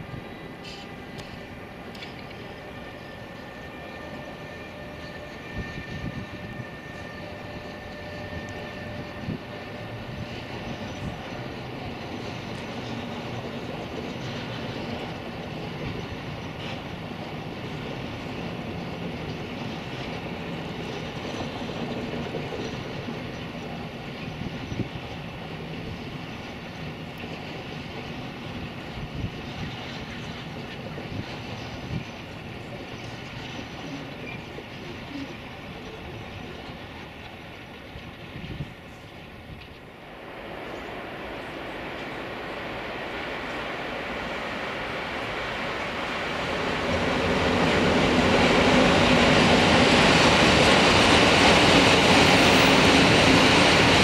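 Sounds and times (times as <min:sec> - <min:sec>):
distant freight train rolling: 0:00.0 - 0:54.0.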